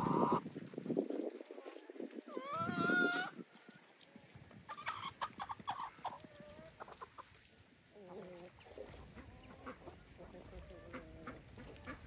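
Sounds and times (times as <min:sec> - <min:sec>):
chickens clucking: 0:00.0 - 0:00.4, 0:01.4 - 0:12.0.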